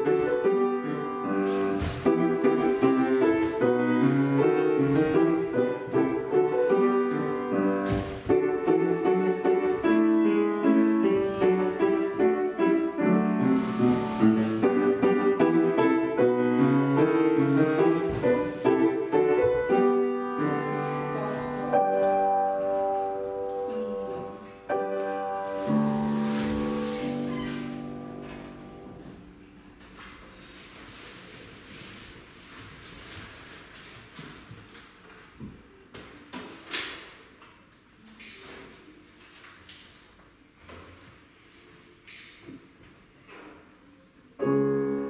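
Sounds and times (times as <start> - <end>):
classical piano accompaniment: 0.0 - 35.9, 44.2 - 45.0.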